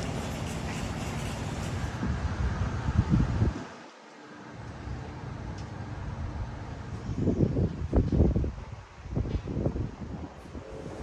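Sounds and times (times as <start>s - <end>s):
wind rumbling on microphone: 0.0s - 3.8s, 5.9s - 11.0s.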